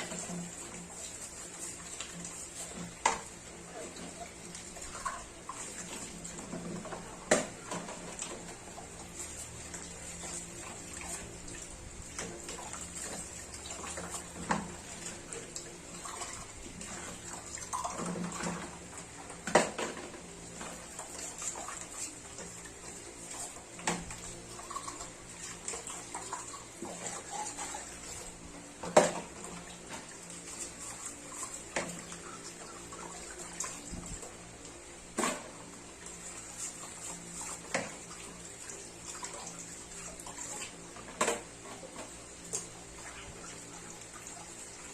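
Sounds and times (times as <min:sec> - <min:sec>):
tap water running: 0:00.0 - 0:44.9.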